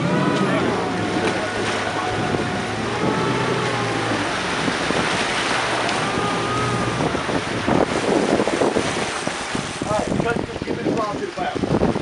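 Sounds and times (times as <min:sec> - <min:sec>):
motorboat engine hum: 0:00.0 - 0:12.0
water rushing: 0:00.0 - 0:12.0
wind buffeting microphone: 0:00.0 - 0:12.0.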